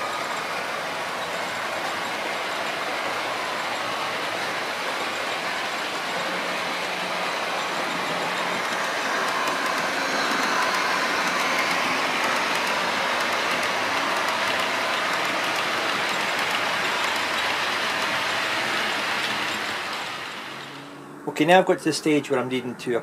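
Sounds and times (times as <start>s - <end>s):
model train wheels rumbling on rail: 0.0s - 20.8s.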